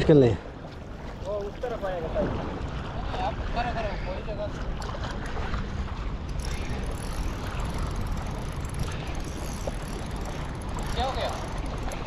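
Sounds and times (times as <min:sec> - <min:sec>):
boat rumbling: 0:00.0 - 0:12.0.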